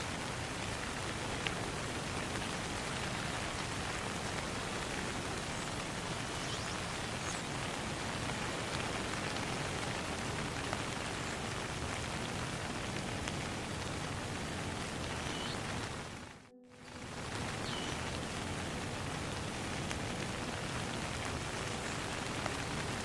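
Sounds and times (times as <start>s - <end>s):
rain falling on a pond: 0.0s - 23.0s.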